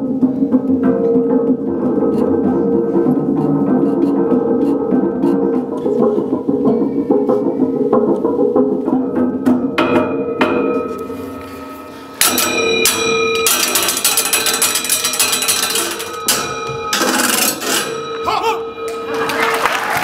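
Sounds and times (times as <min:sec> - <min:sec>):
tubular bells struck with mallets: 0:00.0 - 0:20.0.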